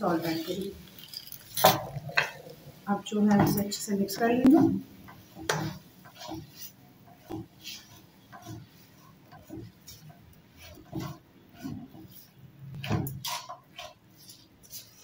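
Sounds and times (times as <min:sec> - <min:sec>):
spatula scraping a pan: 0:00.0 - 0:15.0.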